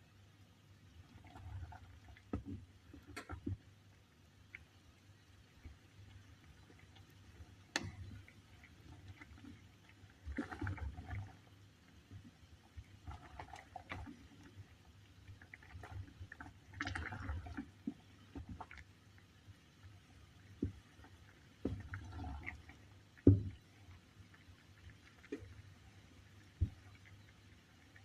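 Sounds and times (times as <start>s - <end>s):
water bubbling in a pan: 0.0s - 28.0s.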